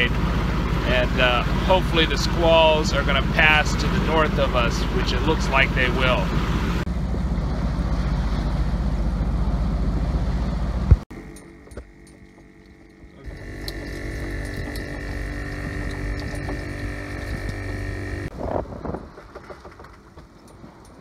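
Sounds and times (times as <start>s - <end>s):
machinery hum with whine: 0.0s - 21.0s
water noise: 0.0s - 21.0s
wind: 0.0s - 21.0s.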